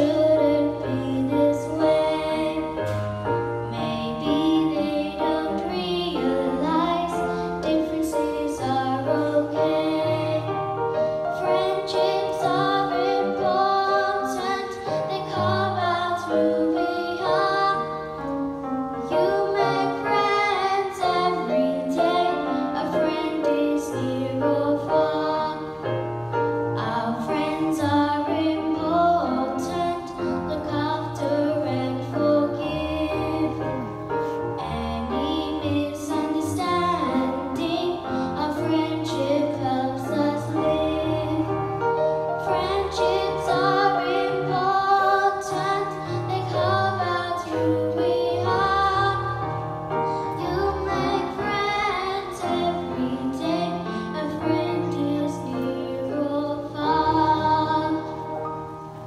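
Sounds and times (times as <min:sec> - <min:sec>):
girl singing into microphone: 0:00.0 - 0:10.7, 0:11.3 - 0:59.0.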